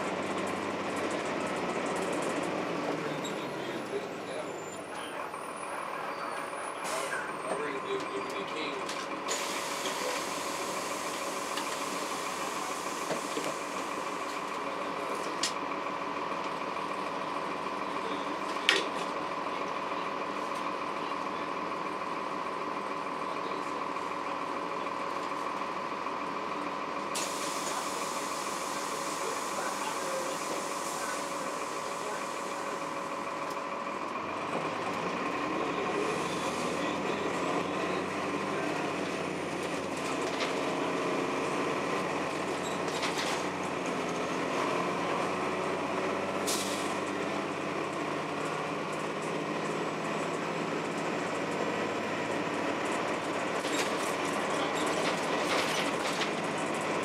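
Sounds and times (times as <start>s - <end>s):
bus engine drone with whine: 0.0s - 57.0s.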